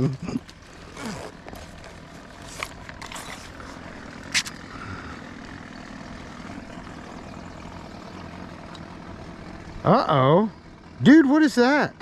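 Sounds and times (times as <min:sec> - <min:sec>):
distant motor droning: 0:00.0 - 0:12.0.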